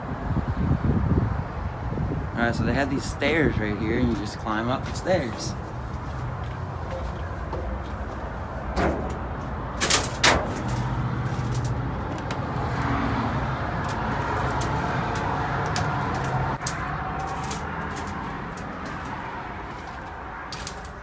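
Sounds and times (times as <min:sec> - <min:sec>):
wind rumble on microphone: 0:00.0 - 0:21.0
footsteps clanking on steel steps: 0:04.1 - 0:21.0.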